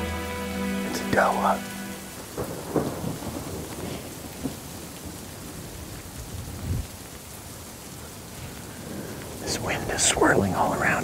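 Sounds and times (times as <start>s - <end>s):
wind and rain on microphone: 0.9s - 11.0s
wind gusts rumbling: 1.1s - 7.5s, 8.1s - 11.0s.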